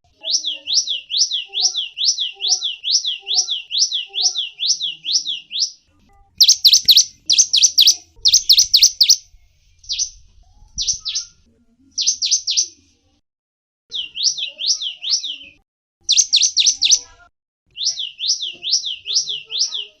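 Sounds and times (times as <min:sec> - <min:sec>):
songbird singing chirps: 0:00.0 - 0:13.2, 0:13.9 - 0:20.0.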